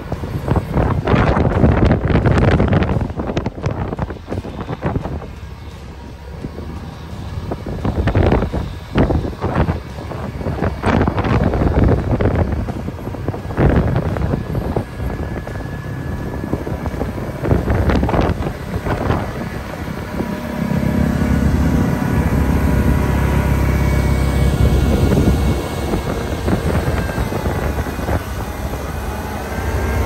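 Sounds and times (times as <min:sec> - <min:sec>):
faint machine hum: 0:00.0 - 0:30.0
heavy low rumble: 0:00.0 - 0:30.0
wind buffeting microphone: 0:00.0 - 0:30.0.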